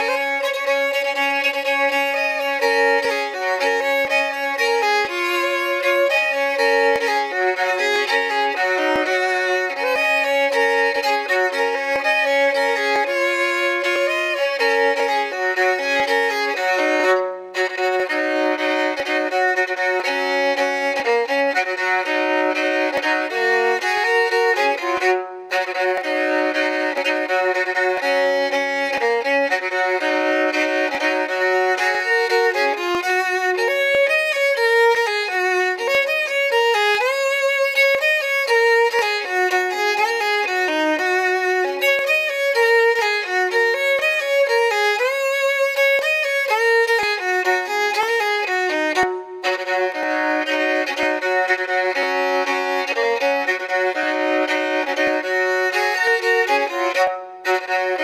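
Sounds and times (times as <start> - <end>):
bowed fiddle playing tune: 0.0 - 58.0.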